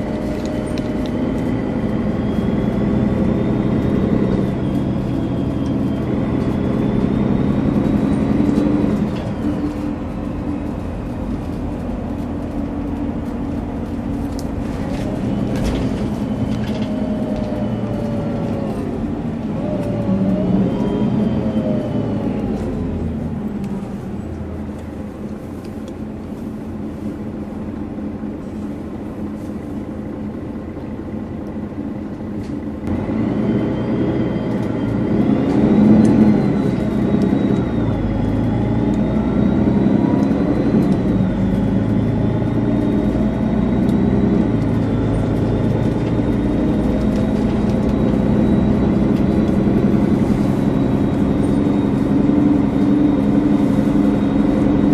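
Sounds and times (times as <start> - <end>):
bus diesel engine: 0.0 - 54.9.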